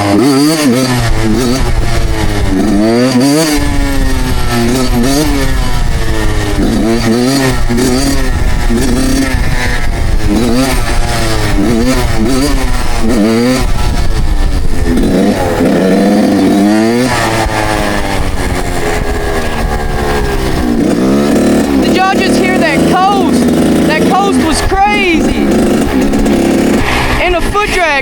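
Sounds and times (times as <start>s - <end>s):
two-stroke dirt bike engine revving: 0.0s - 28.0s.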